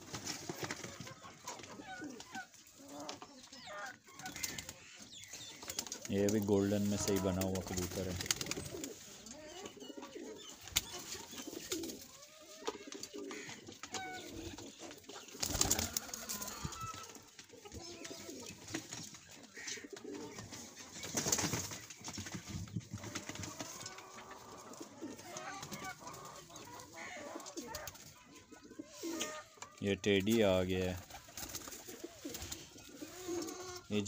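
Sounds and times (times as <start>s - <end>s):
pigeons cooing softly: 0.0s - 34.0s.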